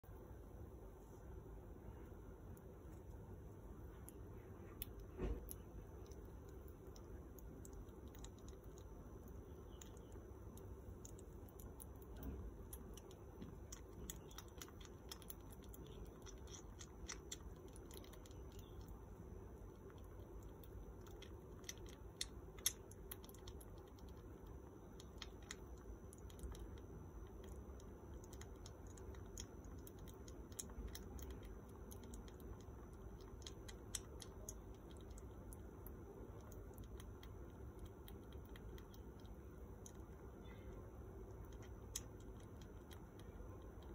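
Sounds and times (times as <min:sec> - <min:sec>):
low room hum: 0:00.0 - 0:43.9
baby squirrel suckling clicks: 0:03.9 - 0:43.9.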